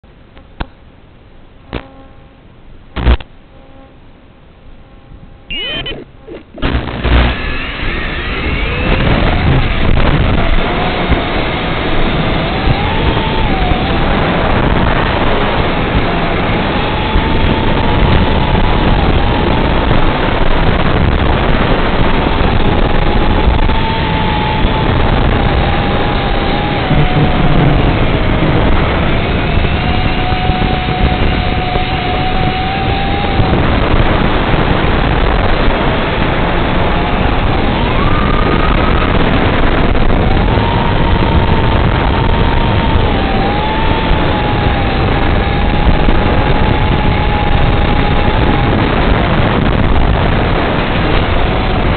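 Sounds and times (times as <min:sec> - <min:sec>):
quadcopter motors whining: 0:05.0 - 0:51.9
wind rush: 0:05.5 - 0:51.9.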